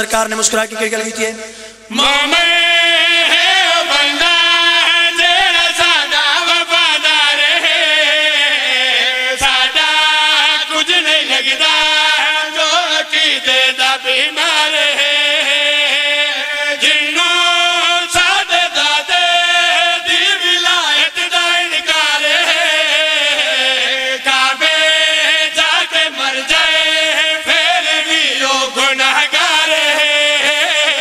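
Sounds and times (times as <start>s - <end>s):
men chanting into a microphone: 0.0s - 31.0s.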